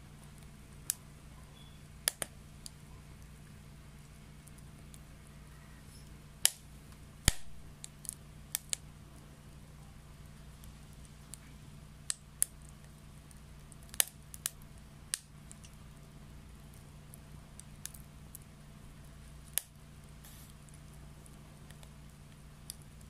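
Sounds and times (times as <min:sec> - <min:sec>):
faint low hum: 0:00.0 - 0:23.0
wet wood crackling in stove: 0:00.0 - 0:23.0.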